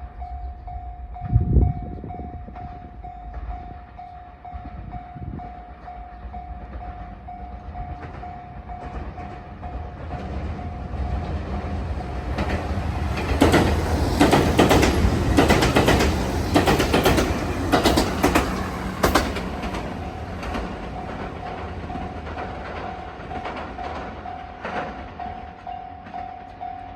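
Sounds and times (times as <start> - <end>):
crossing warning bell ringing: 0.0 - 11.6, 12.4 - 26.9
train wheels clacking over rails: 2.4 - 26.2.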